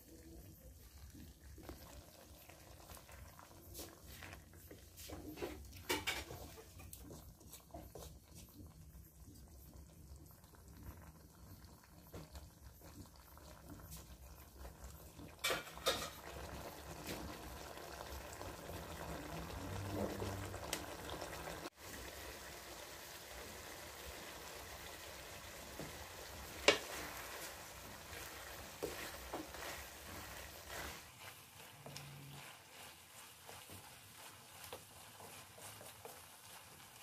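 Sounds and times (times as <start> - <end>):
pot bubbling: 0.0 - 37.0.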